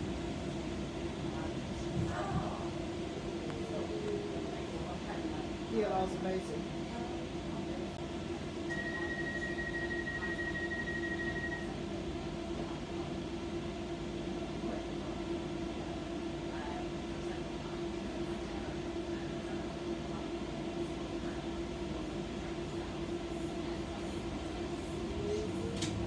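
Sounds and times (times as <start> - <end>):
train rumble with low hum: 0.0 - 26.0.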